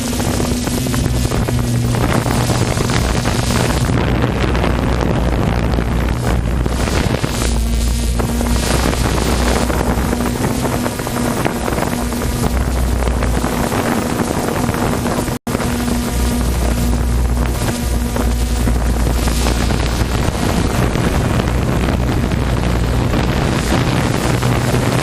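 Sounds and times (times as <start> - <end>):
personal watercraft engines: 0.0 - 25.0
wind buffeting on microphone: 0.0 - 25.0.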